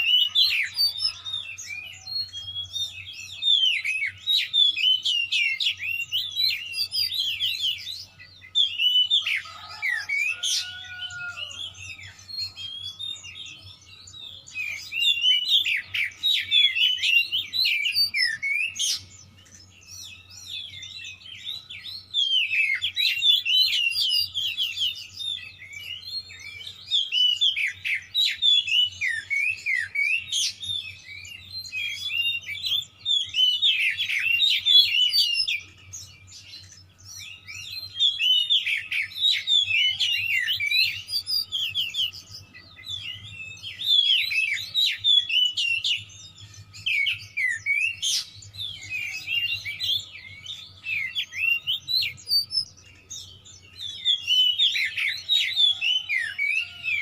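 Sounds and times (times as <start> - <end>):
bird singing whistles and chatter: 0.0 - 57.0.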